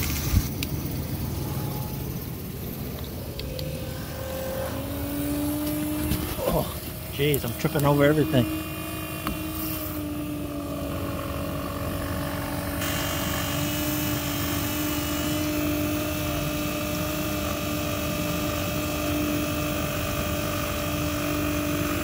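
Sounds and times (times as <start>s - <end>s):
pump motor hum with hiss: 0.0s - 22.0s.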